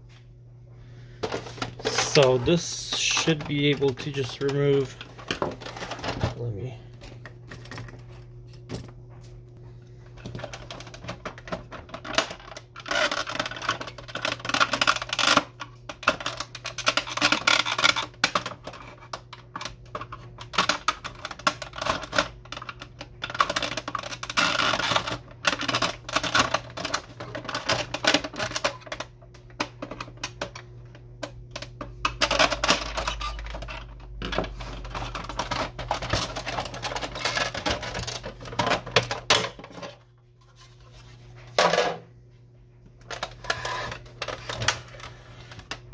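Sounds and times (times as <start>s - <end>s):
steady low hum: 0.0s - 45.9s
plastic clicks rattles and scrapes: 1.2s - 6.7s, 10.2s - 41.7s, 43.0s - 45.9s.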